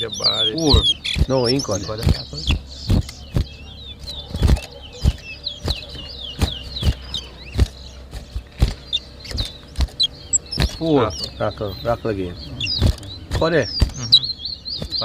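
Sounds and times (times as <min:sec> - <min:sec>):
birds knocking in cages: 0:00.0 - 0:15.0
finches chirping: 0:00.0 - 0:15.0.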